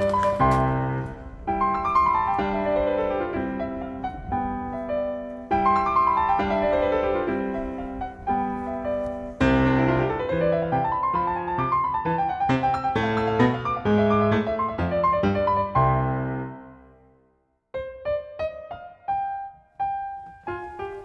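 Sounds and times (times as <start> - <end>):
solo piano music: 0.0 - 21.0.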